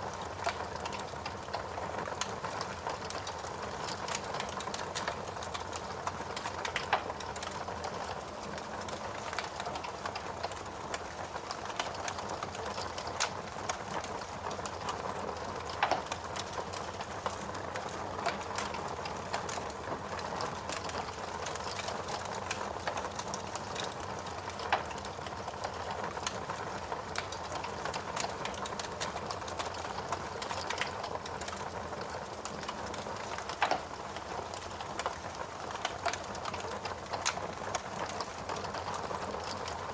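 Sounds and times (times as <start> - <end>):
wood fire crackling and hissing: 0.0 - 39.9.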